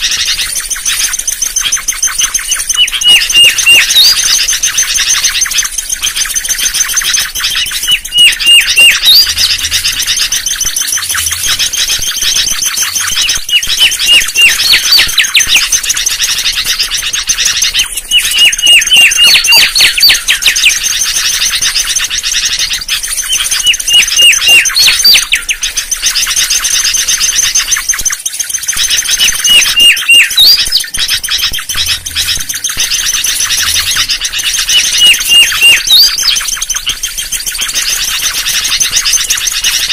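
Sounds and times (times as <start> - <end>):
bird whistling song: 0.0 - 39.9.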